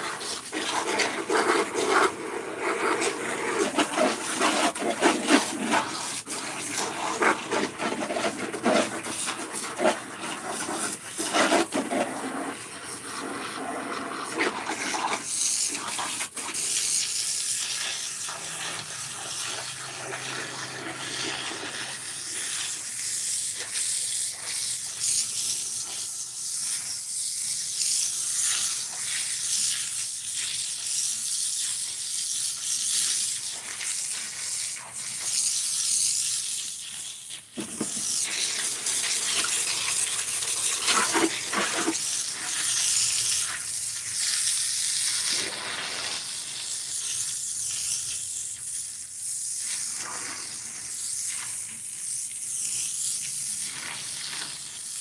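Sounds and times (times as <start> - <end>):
water jet splattering on concrete: 0.0 - 55.0.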